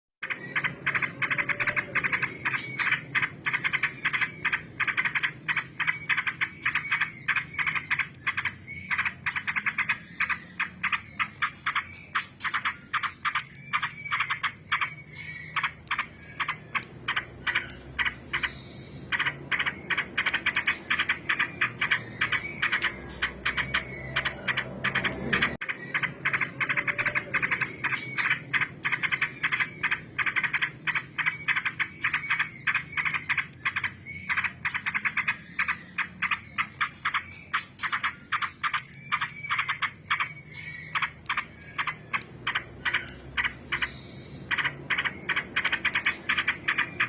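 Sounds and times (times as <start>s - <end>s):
bird churring chatter: 0.2s - 47.0s.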